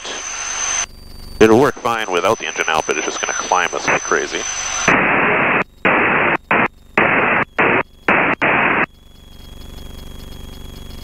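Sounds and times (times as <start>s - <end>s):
radio static bursts: 0.0s - 8.9s
quiet cabin drone: 0.0s - 11.0s.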